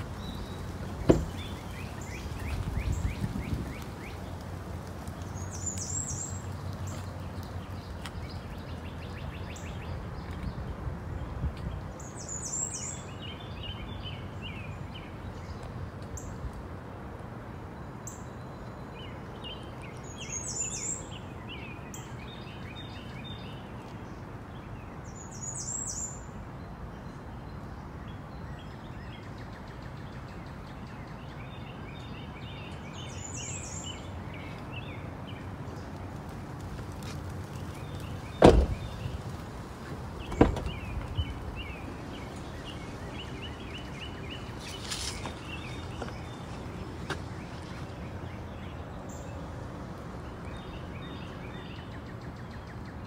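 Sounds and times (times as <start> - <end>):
outdoor background noise: 0.0 - 53.0.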